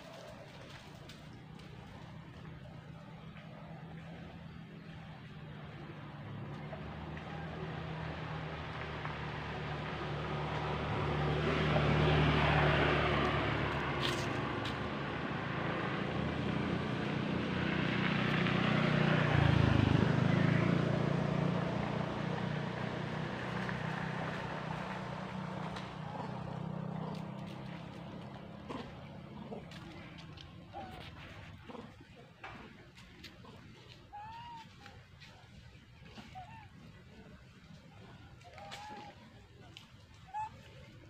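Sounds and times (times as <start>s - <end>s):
vehicle engines passing by: 0.0s - 41.0s.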